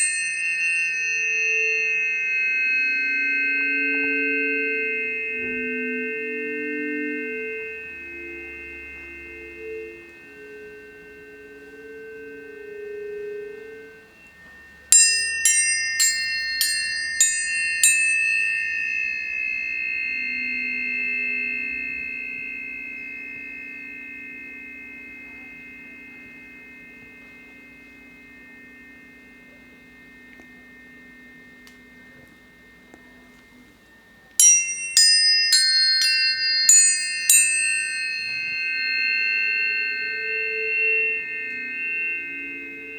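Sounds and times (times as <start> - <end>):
low steady fork tones: 0.0 - 42.9
tuning forks struck ringing: 0.0 - 42.9.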